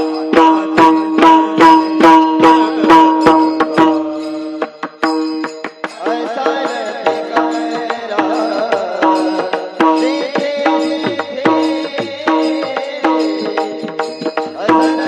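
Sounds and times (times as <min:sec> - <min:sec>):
person singing: 0:00.0 - 0:05.1, 0:05.8 - 0:15.0
hand drum strokes: 0:00.0 - 0:15.0
steady instrumental tone: 0:00.0 - 0:15.0.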